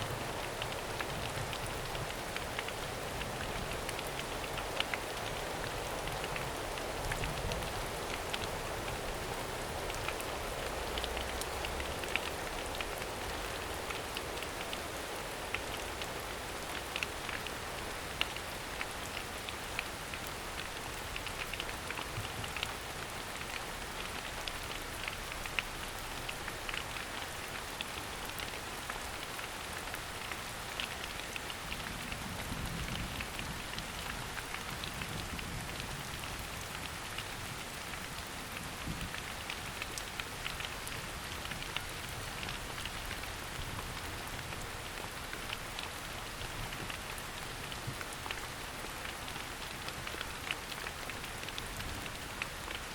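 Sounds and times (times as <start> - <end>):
steady rain hiss: 0.0 - 52.9
raindrops ticking: 0.1 - 52.9.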